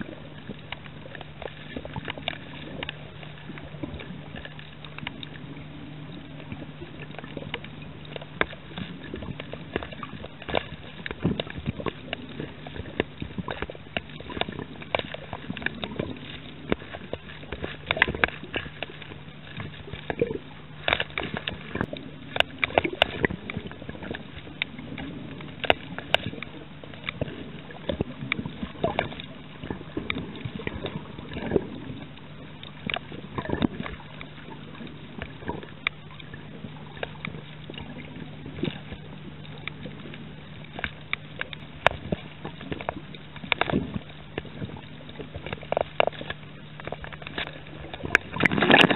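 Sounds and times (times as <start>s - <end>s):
low underwater hum: 0.0s - 48.9s
underwater clicks and crackles: 0.0s - 48.9s
water sloshing: 0.0s - 48.9s.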